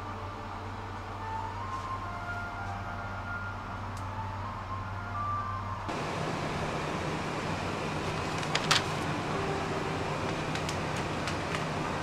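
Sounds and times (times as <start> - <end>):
diesel railcar rumbling: 0.0 - 12.0.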